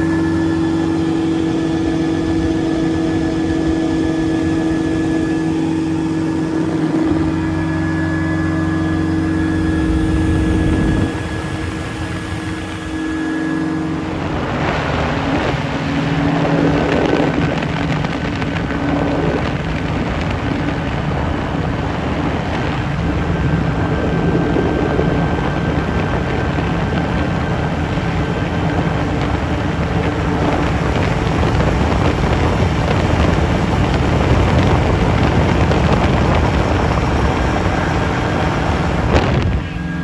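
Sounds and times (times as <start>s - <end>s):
ultralight aircraft engine and propeller: 0.0s - 40.0s
wind noise on microphone: 0.0s - 40.0s.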